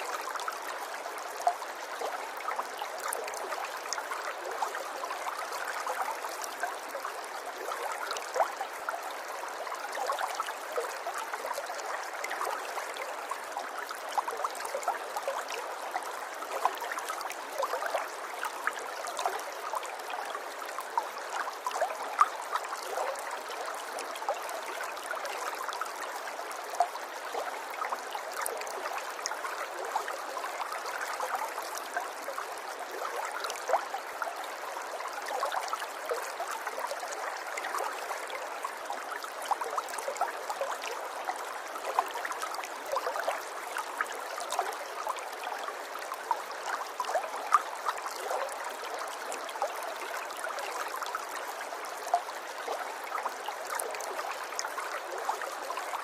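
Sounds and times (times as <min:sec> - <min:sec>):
river water flowing and trickling: 0:00.0 - 0:56.0.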